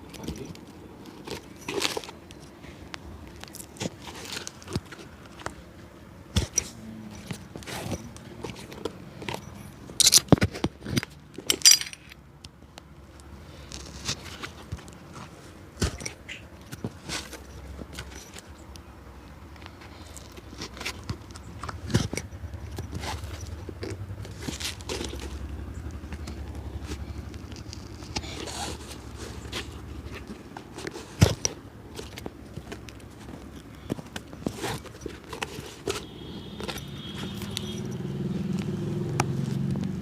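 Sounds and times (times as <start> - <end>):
hand tools tapping and scraping shoe: 0.0 - 40.0.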